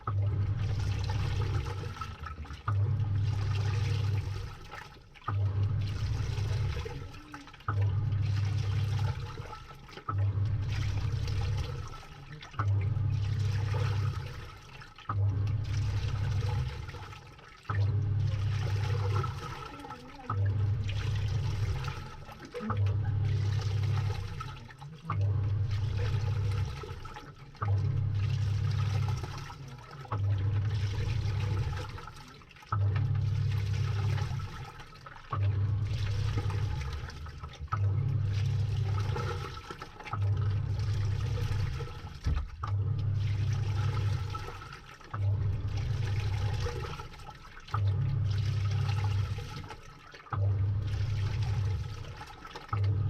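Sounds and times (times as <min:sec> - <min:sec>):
washing machine motor humming: 0:00.0 - 0:53.0
water sloshing: 0:00.0 - 0:53.0.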